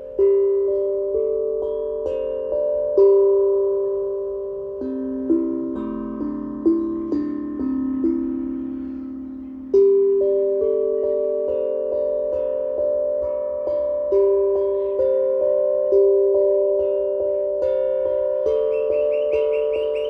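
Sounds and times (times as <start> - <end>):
slow ringing melody: 0.0 - 20.0.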